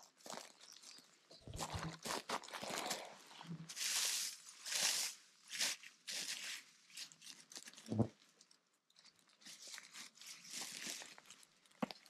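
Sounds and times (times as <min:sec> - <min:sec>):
pine needles rustling and crunching: 0:00.0 - 0:12.0.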